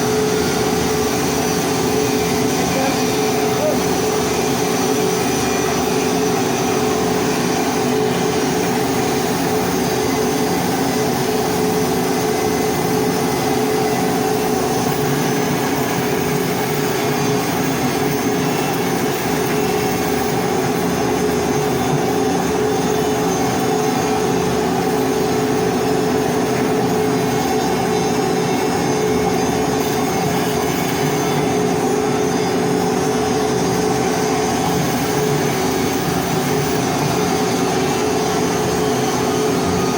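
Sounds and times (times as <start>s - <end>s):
welding machine humming drone: 0.0s - 39.9s.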